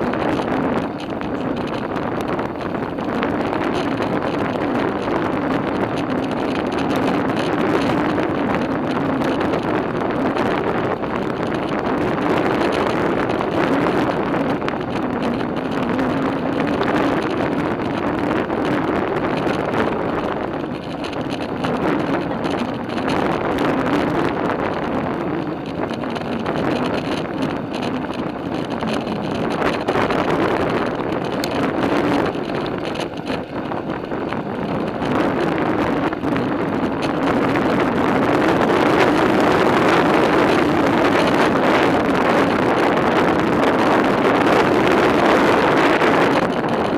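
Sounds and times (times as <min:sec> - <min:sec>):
bicycle tyres humming: 0:00.0 - 0:46.9
wind rushing over microphone: 0:00.0 - 0:46.9.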